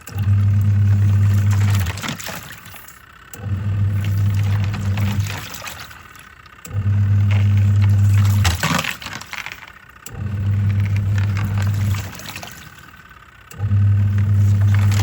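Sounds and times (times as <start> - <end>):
water sloshing in tub: 0.0 - 2.9, 3.5 - 13.1, 13.8 - 15.0
washing machine motor humming: 0.0 - 15.0.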